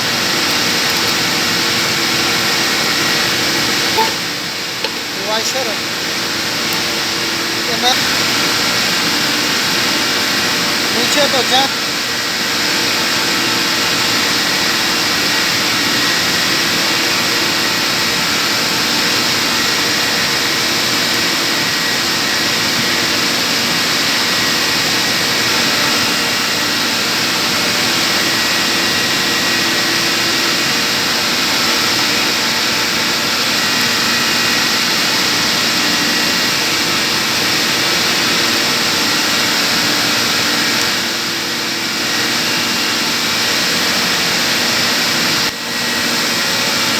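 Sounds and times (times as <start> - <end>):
loud machinery hiss: 0.0 - 46.9.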